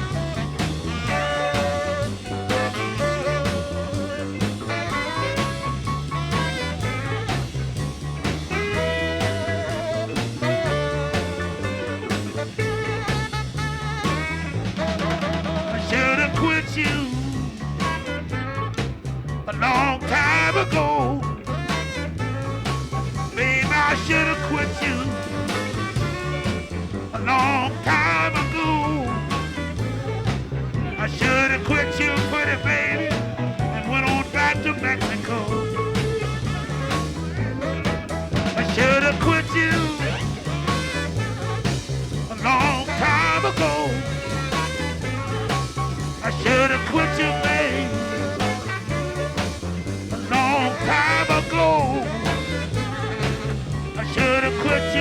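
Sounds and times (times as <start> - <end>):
lead instrument bending notes: 0.0 - 55.0
live blues band playing: 0.0 - 55.0.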